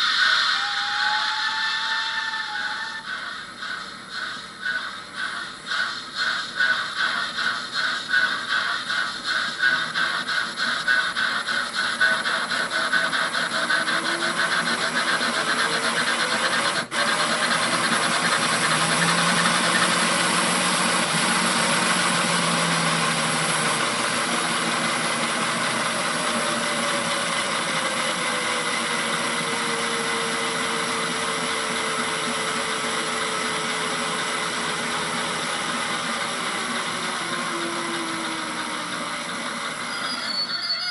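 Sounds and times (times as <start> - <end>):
steam locomotive hiss and rumble: 0.0 - 40.9.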